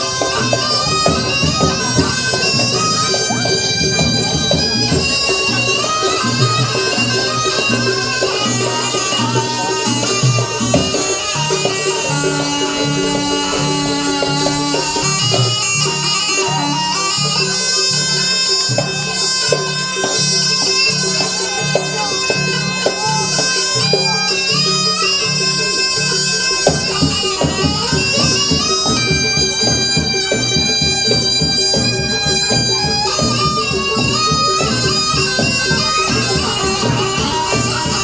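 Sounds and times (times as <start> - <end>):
reedy shawm melody: 0.0 - 38.0.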